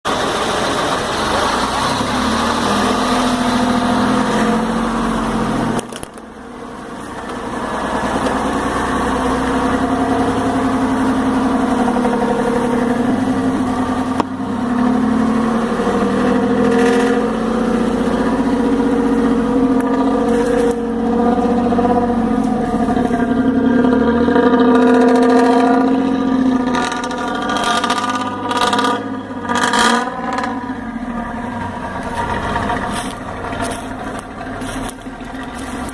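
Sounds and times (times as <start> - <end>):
diesel engine exhaust under load: 0.0 - 35.9.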